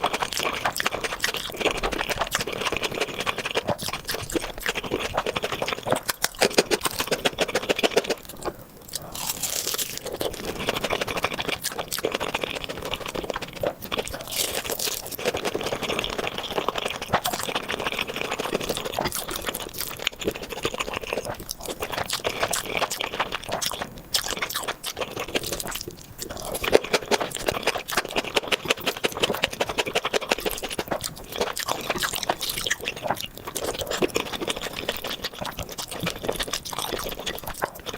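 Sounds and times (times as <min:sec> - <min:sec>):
person crunching and chewing food: 0:00.0 - 0:37.9.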